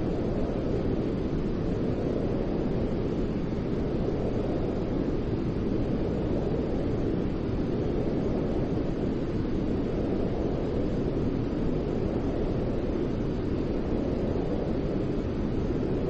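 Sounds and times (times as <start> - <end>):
white noise: 0.0 - 16.0.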